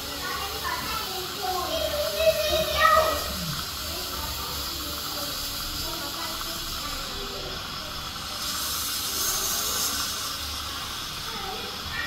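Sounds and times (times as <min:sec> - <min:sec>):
saliva ejector hissing: 0:01.1 - 0:12.0.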